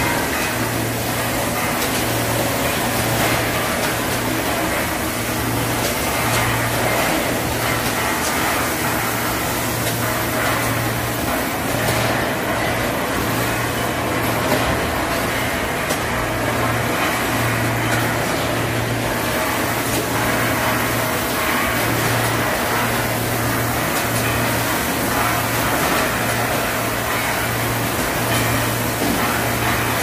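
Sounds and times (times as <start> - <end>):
packaging machinery running: 0.0 - 30.0.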